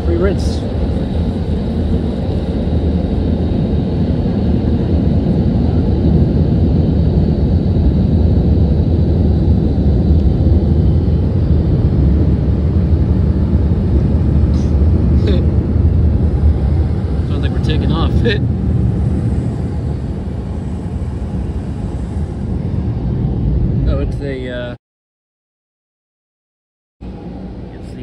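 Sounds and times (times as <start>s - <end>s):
car wash dryer blowers running: 0.0s - 24.8s, 27.0s - 28.0s.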